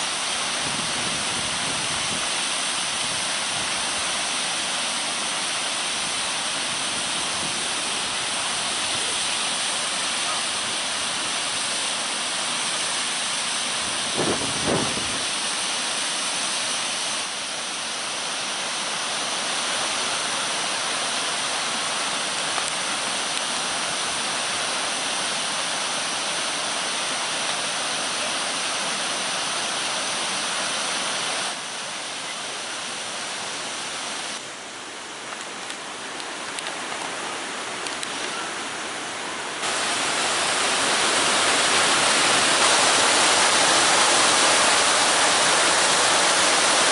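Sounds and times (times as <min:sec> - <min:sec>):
stream rushing over stones: 0:00.0 - 0:46.9.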